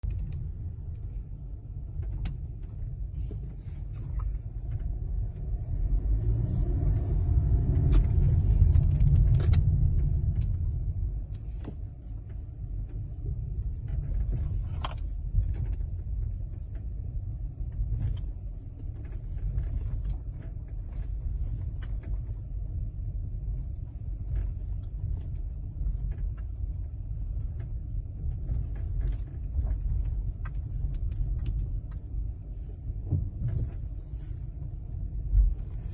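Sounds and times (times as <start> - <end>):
car engine low rumble: 0.0 - 35.9.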